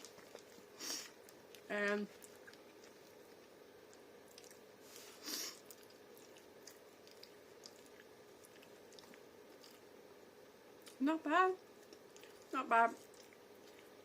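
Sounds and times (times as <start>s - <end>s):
person chewing food: 0.0s - 11.0s, 11.6s - 14.0s.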